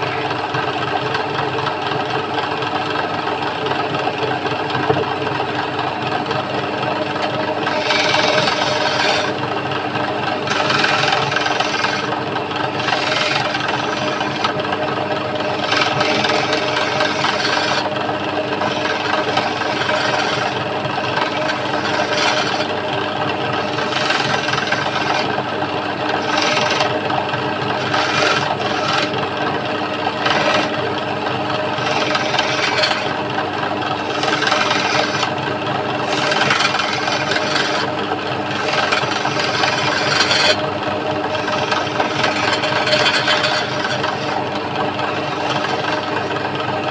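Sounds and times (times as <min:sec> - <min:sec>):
chisel scraping spinning wood: 0:00.0 - 0:46.9
wood lathe motor hum: 0:00.0 - 0:46.9.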